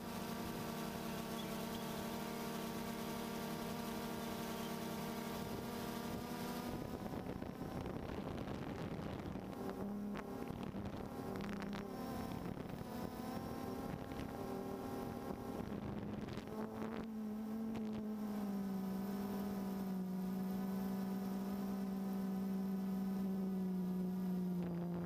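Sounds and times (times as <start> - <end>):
drone propellers humming: 0.0 - 25.0.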